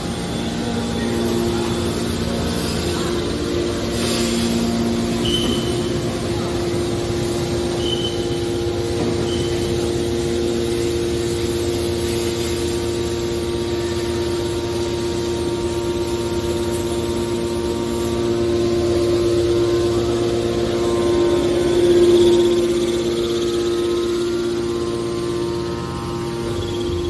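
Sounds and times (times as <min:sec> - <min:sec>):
hydraulic baler humming: 0:00.0 - 0:27.0.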